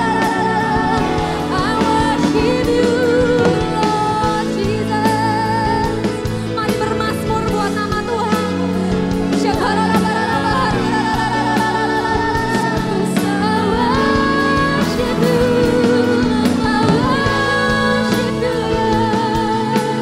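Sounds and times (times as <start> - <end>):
instrumental accompaniment: 0.0 - 20.0
woman singing into a microphone: 0.0 - 20.0.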